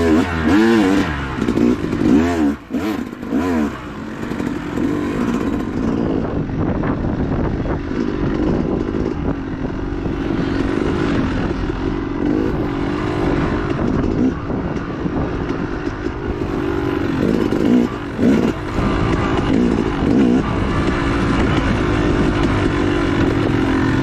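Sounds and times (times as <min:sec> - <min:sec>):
dirt bike engine revving: 0:00.0 - 0:24.0
rough noisy rush: 0:00.0 - 0:24.0.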